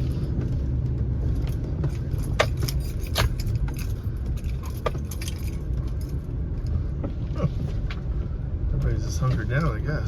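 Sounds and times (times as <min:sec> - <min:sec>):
rattling clicks in truck cab: 0:00.0 - 0:08.1
truck engine and tyres rumbling: 0:00.0 - 0:10.0.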